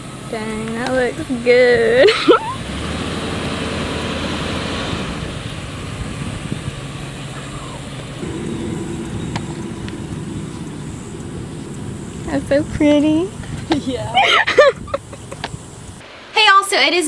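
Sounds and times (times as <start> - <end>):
vehicle engine drone: 0.0 - 16.0.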